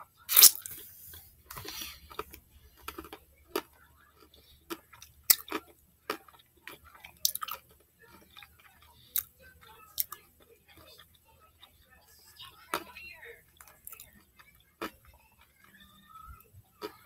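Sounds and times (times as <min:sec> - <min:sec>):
chewing chocolate: 0:00.1 - 0:17.0.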